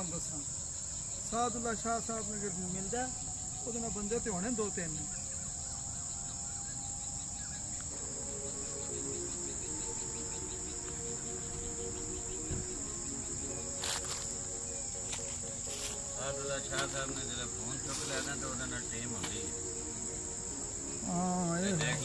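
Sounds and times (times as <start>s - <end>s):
faint held low tones: 0.0s - 22.0s
insects singing: 0.0s - 22.0s.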